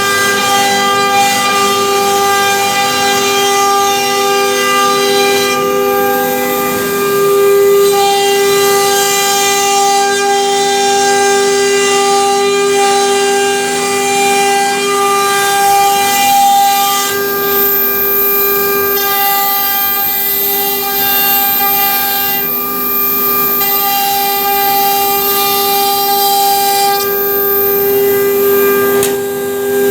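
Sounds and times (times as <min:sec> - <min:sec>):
router spindle whining: 0:00.0 - 0:29.9.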